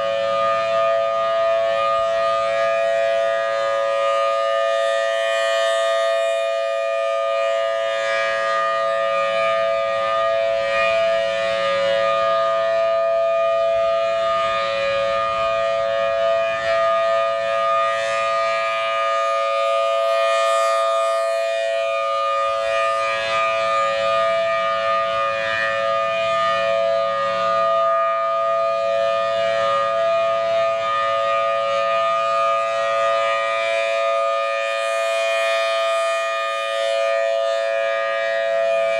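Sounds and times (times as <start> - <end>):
siren two-tone chord: 0.0 - 38.9.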